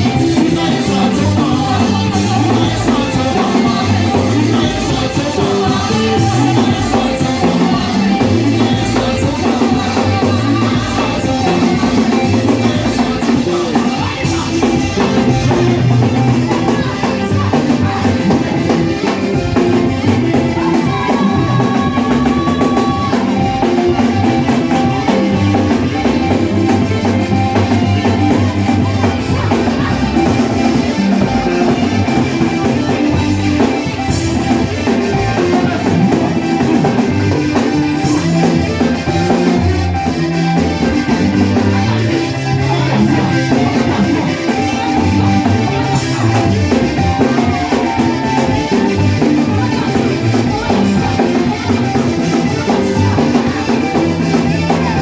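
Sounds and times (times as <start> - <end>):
drum kit with rimshots: 0.0 - 55.0
worship band playing: 0.0 - 55.0.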